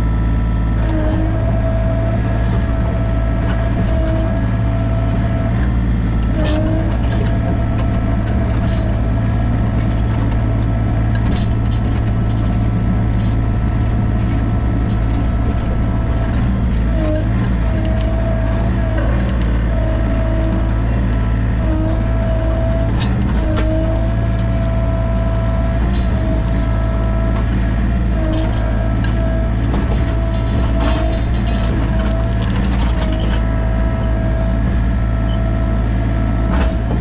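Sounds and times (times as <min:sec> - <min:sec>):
excavator diesel engine running: 0:00.0 - 0:37.0
held whine: 0:00.0 - 0:37.0.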